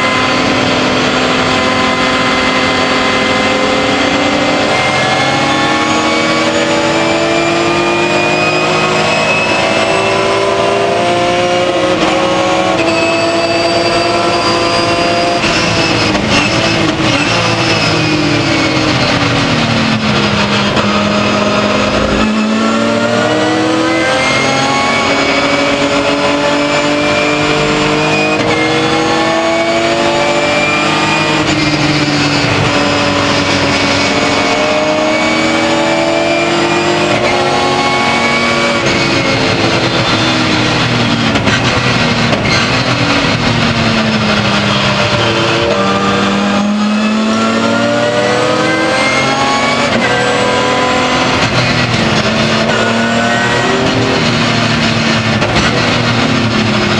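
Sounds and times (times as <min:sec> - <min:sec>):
race car engine shifting gears: 0:00.0 - 0:56.9.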